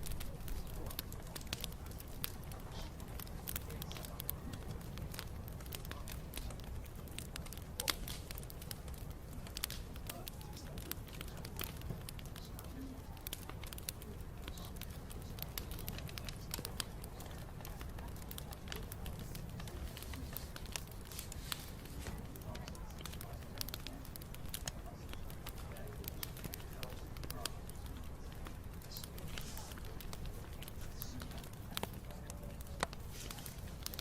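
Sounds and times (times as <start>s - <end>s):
fire crackling and popping: 0.0s - 34.0s
low rumble of fire: 0.0s - 34.0s.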